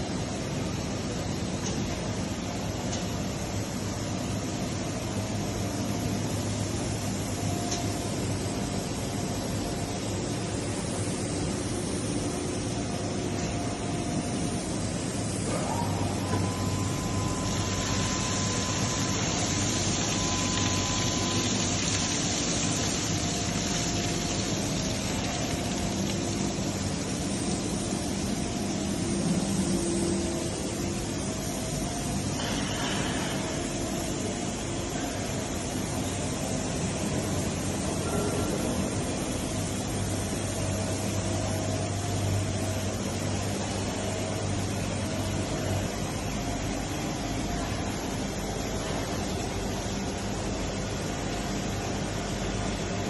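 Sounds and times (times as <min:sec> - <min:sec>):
grinder electric hum and hiss: 0:00.0 - 0:53.0.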